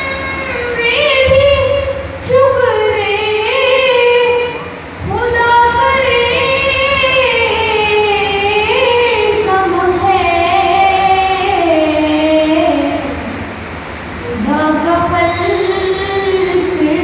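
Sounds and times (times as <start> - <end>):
boy singing into a microphone: 0.0 - 13.4, 14.2 - 17.0.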